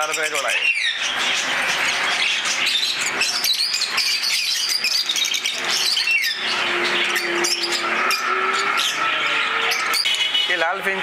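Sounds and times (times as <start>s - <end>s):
caged birds chirping and squawking: 0.0s - 11.0s.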